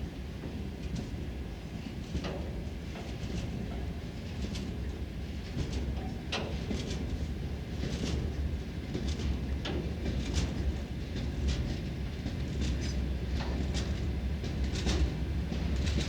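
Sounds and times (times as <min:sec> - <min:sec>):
freight train rumble: 0:00.0 - 0:16.0.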